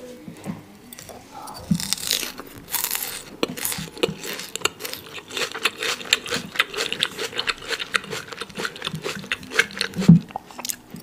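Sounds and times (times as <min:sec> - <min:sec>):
close chewing crunches: 0:01.7 - 0:10.8.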